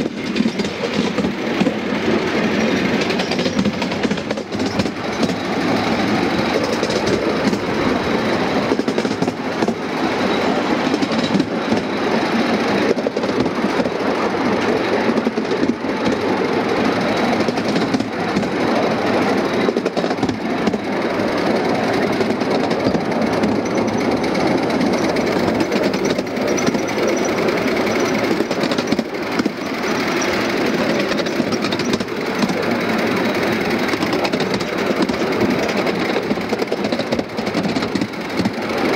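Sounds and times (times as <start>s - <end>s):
miniature steam locomotive running: 0.0s - 38.9s
small wheels rattling on rails: 0.0s - 38.9s.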